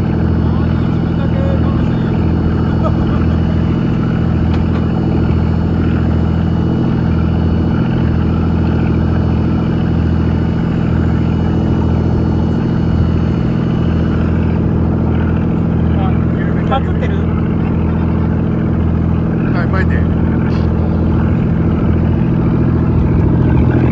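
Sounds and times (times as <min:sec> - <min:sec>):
boat engine humming: 0:00.0 - 0:23.9.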